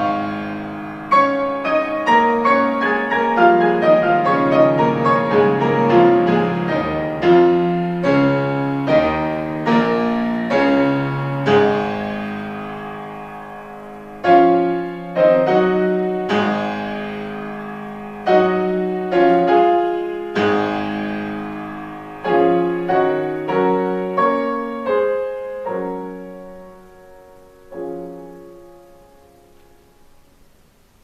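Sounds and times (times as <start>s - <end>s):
solo piano slow chords: 0.0s - 31.0s.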